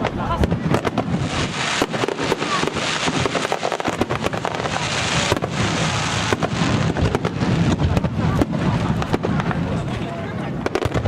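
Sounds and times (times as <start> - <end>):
fireworks crackling pops: 0.0 - 11.0
low rumble of explosions: 0.0 - 11.0.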